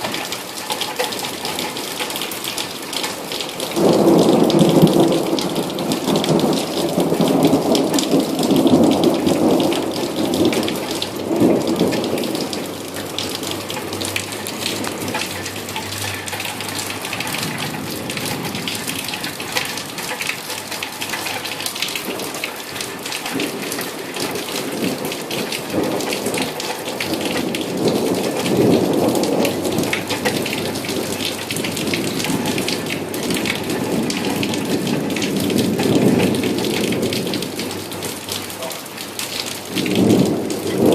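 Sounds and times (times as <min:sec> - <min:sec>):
heavy rain pouring: 0:00.0 - 0:40.9
thunder rumbling: 0:01.1 - 0:40.9.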